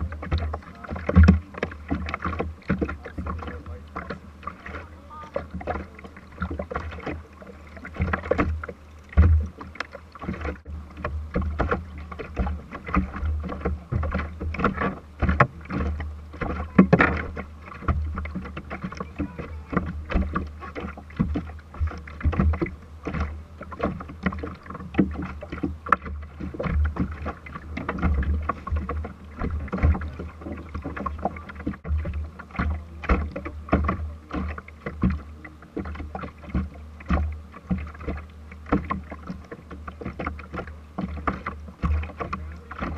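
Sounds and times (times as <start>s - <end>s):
small waves slapping boat hull: 0.0s - 42.9s
steady low rumble: 0.0s - 42.9s.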